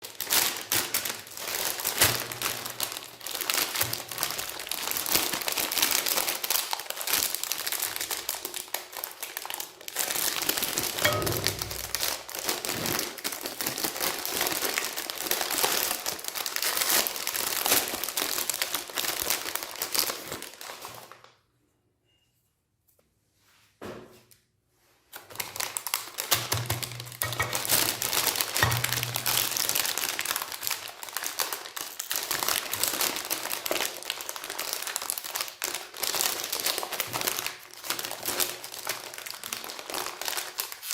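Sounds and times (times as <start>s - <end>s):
plastic wrappers crinkling: 0.0s - 21.3s, 25.1s - 40.9s.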